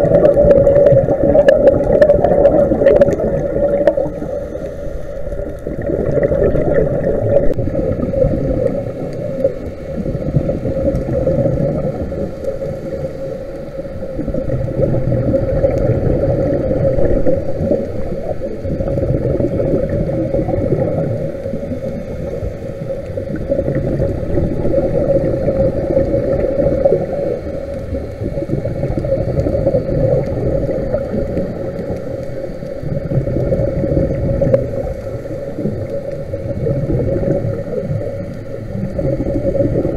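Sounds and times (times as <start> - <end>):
muffled underwater rumble: 0.0 - 39.9.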